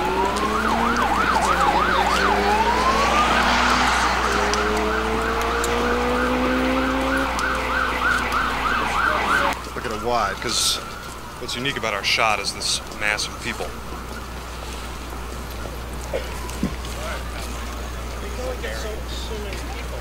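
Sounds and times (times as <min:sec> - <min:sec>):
siren yelping: 0:00.0 - 0:18.2
siren wailing: 0:00.0 - 0:18.6.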